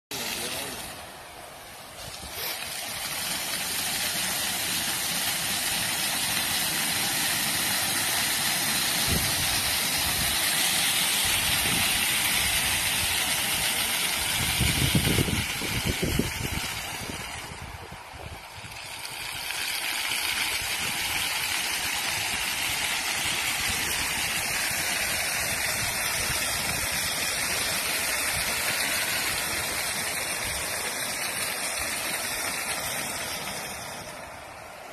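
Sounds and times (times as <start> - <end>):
fountain water jets splashing: 0.1 - 34.9.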